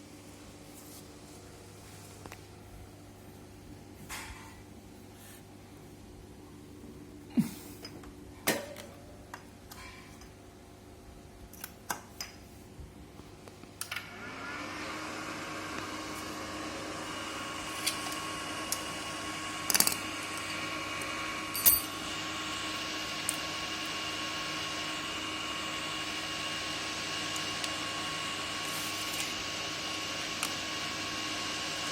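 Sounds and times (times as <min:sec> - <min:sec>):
cooling fan humming with whine: 0:00.0 - 0:31.9.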